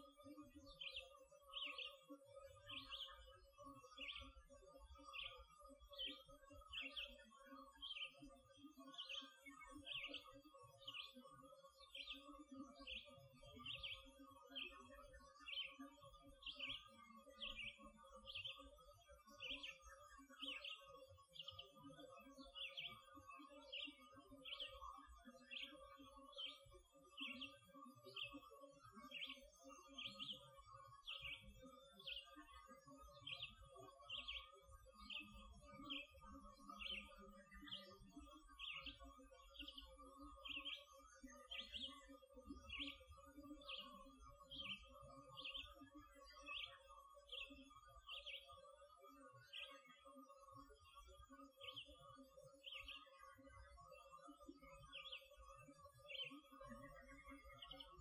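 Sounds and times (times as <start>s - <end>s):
songbird high chirp: 0.0s - 58.0s.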